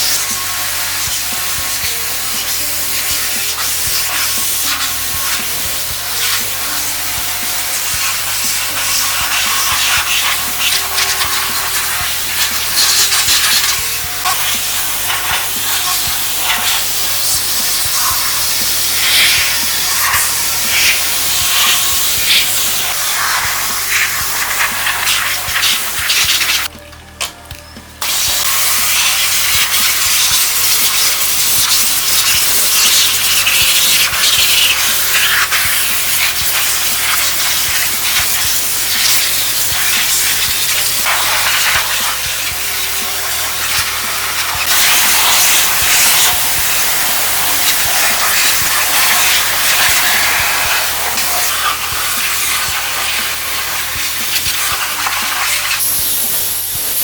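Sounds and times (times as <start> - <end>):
loud spraying hiss: 0.0 - 26.7, 28.0 - 57.0
background music: 0.0 - 57.0.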